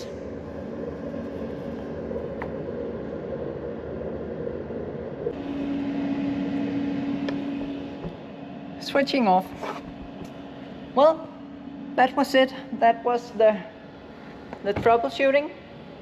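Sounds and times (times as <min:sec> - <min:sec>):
air heater whirring: 0:00.0 - 0:16.0
steady low hum: 0:00.0 - 0:16.0.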